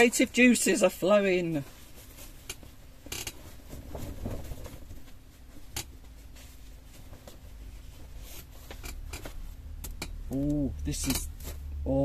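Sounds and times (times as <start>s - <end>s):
fabric rustling: 0.0s - 10.4s, 11.0s - 11.8s.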